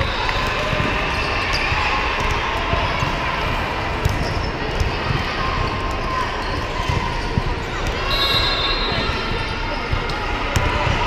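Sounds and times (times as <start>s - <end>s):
crowd hubbub: 0.0s - 11.0s.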